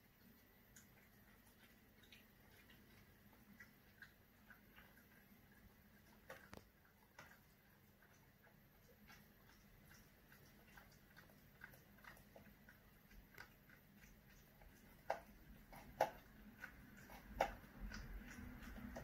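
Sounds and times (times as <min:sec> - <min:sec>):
cat crunching food: 0:00.2 - 0:19.0.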